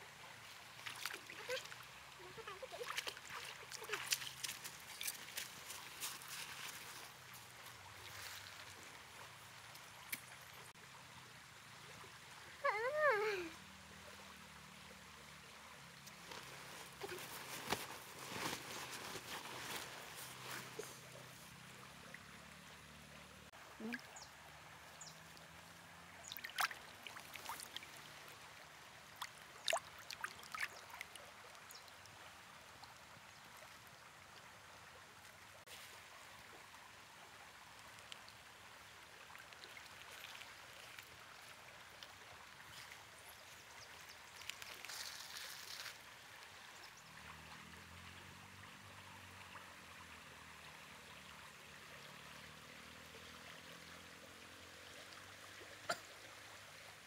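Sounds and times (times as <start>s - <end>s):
river water lapping over pebbles: 0.0s - 10.8s, 14.0s - 57.0s.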